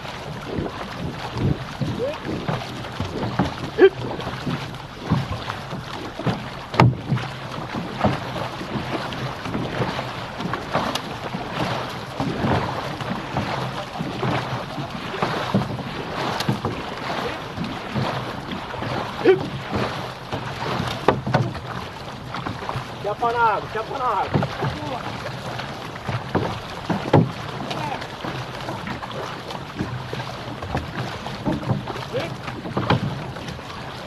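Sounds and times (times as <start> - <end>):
paddles splashing in water: 0.0 - 34.0
water rushing along hull: 0.0 - 34.0.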